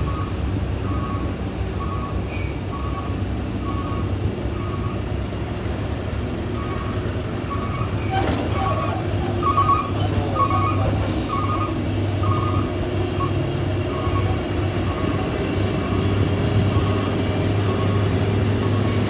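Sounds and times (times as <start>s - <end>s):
heavy truck engine droning: 0.0s - 19.0s.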